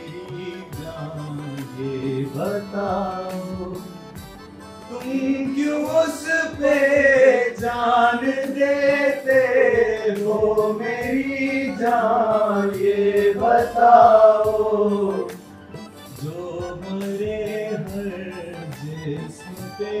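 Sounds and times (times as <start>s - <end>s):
man singing long melodic notes: 0.0s - 15.5s, 16.1s - 20.0s.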